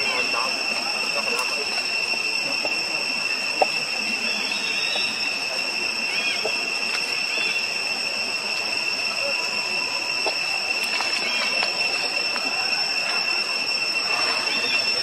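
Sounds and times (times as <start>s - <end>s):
faint bird chirps: 0.0s - 15.0s
insects droning: 0.0s - 15.0s.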